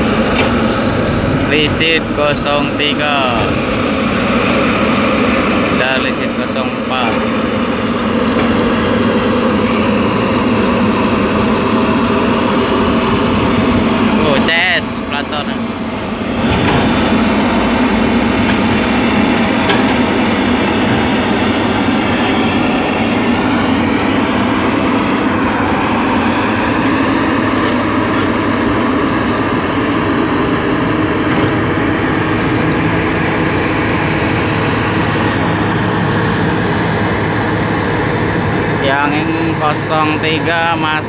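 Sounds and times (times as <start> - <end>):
excavator diesel engine droning: 0.0 - 41.0.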